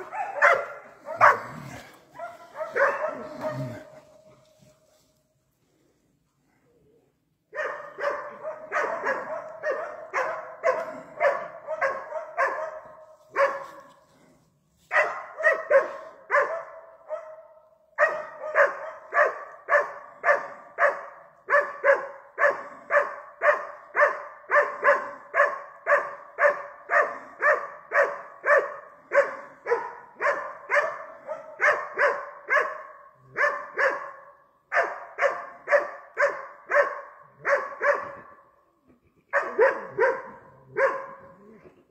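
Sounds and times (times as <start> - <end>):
dog barking: 0.0 - 4.5, 7.5 - 14.0, 14.9 - 38.6, 39.3 - 41.7.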